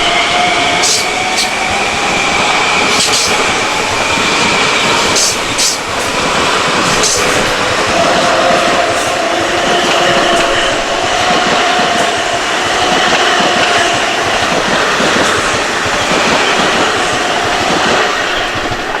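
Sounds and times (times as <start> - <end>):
diesel train passing: 0.0 - 19.0
wheels clattering over rails: 0.3 - 19.0.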